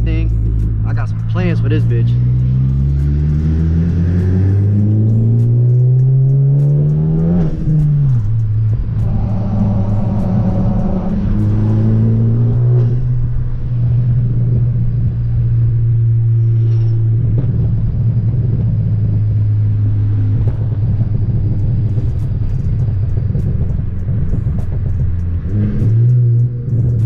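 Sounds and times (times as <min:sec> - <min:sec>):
car engine drone: 0:00.0 - 0:27.0
tyre and road noise: 0:00.0 - 0:27.0.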